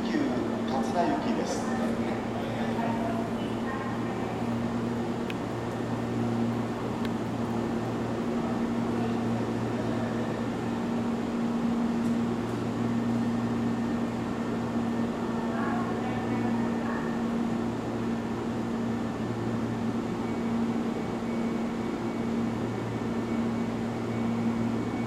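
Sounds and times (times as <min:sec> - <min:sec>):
train equipment humming: 0:00.0 - 0:25.0.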